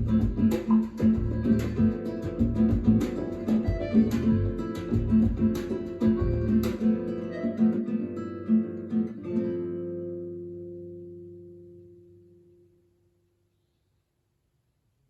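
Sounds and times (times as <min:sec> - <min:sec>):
flamenco acoustic guitar music: 0:00.0 - 0:12.8.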